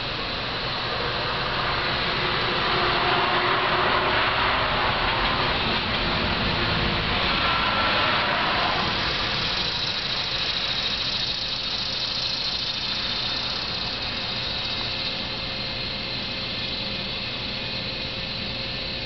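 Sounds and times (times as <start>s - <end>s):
faint high whine: 0.0s - 19.0s
mechanical running noise: 0.0s - 19.0s.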